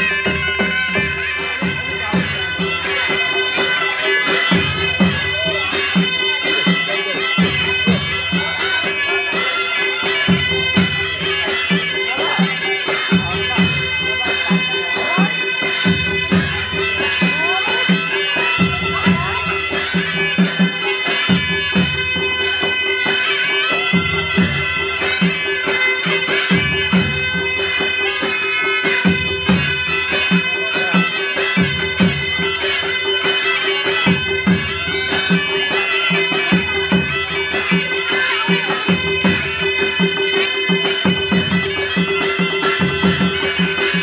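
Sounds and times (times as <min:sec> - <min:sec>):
hand drum strokes: 0:00.0 - 0:44.0
reedy shawm melody: 0:00.0 - 0:44.0.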